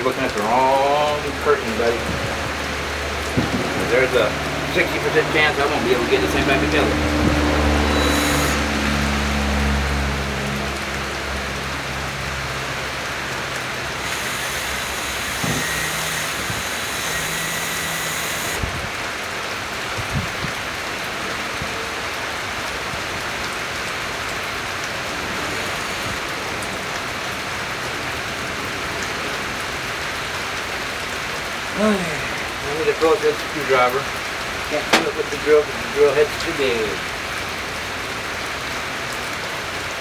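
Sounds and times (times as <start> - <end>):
steady rain falling: 0.0 - 14.1, 18.6 - 40.0.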